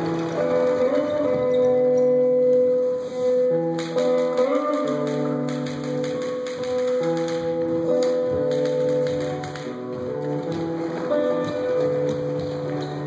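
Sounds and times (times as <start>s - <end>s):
instrumental music with held notes: 0.0s - 13.0s.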